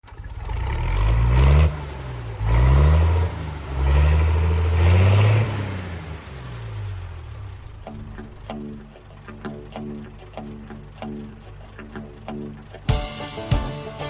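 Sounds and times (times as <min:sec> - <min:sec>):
vehicle engine accelerating: 0:00.0 - 0:12.9.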